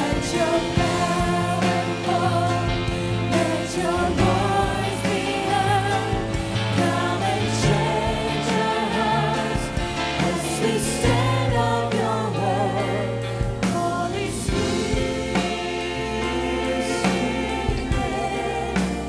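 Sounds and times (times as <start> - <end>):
backing singers: 0.0 - 19.0
piano chords: 0.0 - 19.0.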